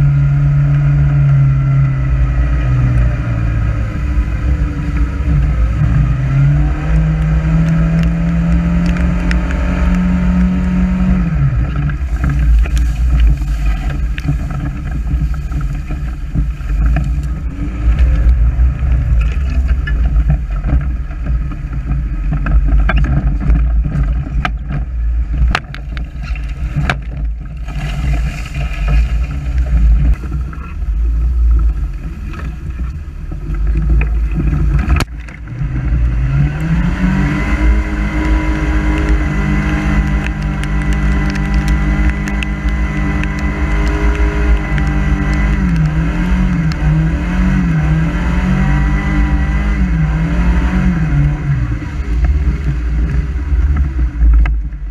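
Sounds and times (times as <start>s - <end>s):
buggy engine driving under load: 0.0s - 54.9s.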